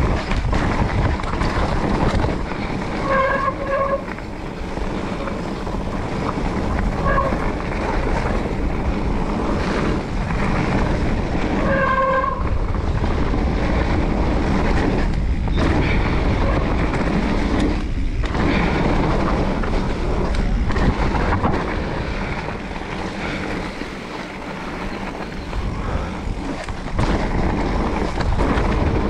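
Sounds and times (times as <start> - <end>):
bike rattling over bumps: 0.0 - 29.0
bike tyre noise on dirt: 0.0 - 29.0
wind buffeting microphone: 0.0 - 29.0.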